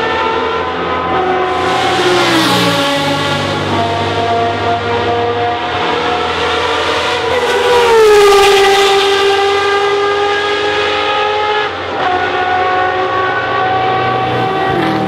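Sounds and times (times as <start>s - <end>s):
racing car engine passing at speed: 0.0s - 15.0s.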